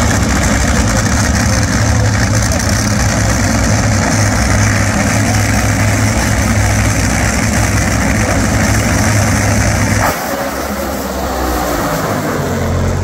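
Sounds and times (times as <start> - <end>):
dragster engines idling: 0.0 - 13.0.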